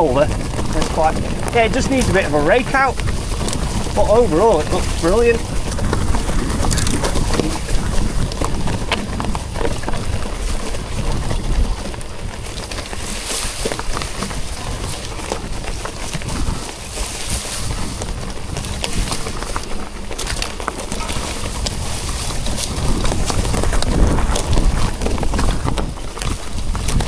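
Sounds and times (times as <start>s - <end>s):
bike rattling and knocking: 0.0s - 27.0s
tyres crunching over dirt and stones: 0.0s - 27.0s.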